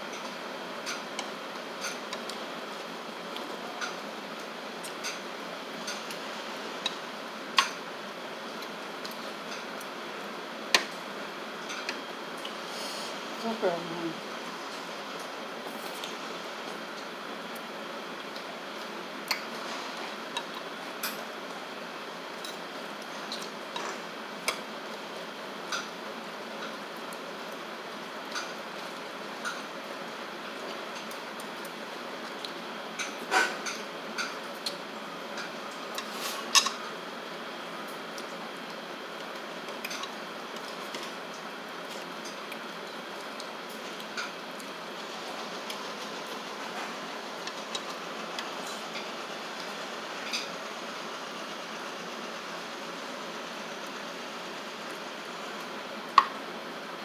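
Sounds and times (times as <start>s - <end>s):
steady hissing noise: 0.0s - 30.5s, 33.9s - 57.0s.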